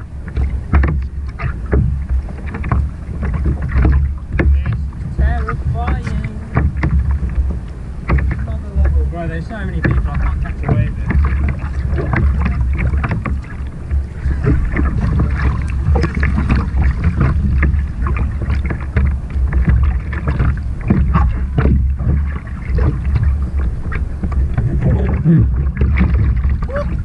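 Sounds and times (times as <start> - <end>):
paddle strokes in water: 0.0 - 27.0
sea water splashing against kayak: 0.0 - 27.0
wind rumble on microphone: 0.0 - 27.0.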